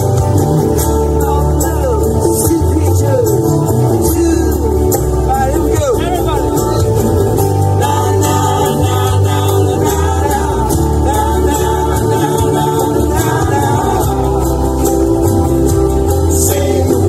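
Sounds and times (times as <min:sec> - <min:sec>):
low bass line: 0:00.0 - 0:17.0
strummed acoustic guitars: 0:00.0 - 0:17.0
person singing: 0:00.7 - 0:17.0.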